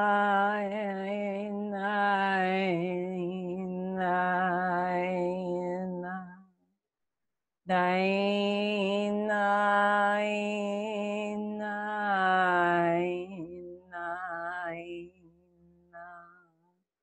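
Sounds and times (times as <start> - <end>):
woman singing wordless vowels: 0.0 - 6.4, 7.7 - 16.2.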